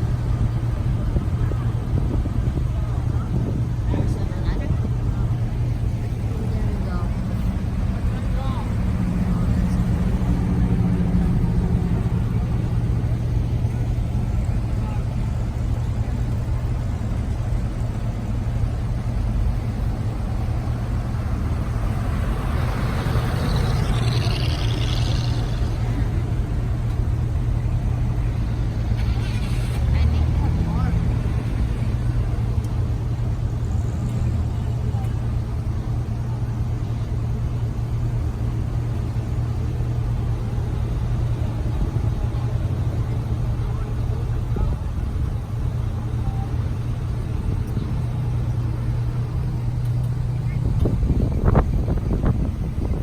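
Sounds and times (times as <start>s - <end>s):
car engine humming: 0.0s - 53.0s.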